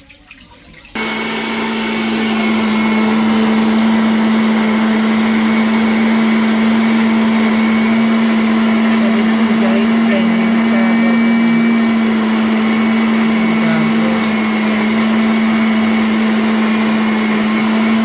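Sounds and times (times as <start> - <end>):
electric blender grinding: 1.0 - 18.0.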